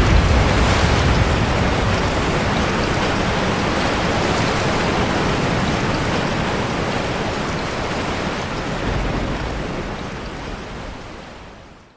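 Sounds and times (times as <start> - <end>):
sea waves crashing: 0.0 - 11.8
heavy rain: 0.0 - 11.9.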